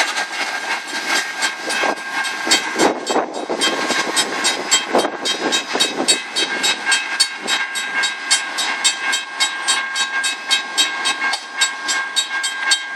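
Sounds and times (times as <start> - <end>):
freight train passing: 0.0 - 12.9
steady high tone: 1.6 - 12.9.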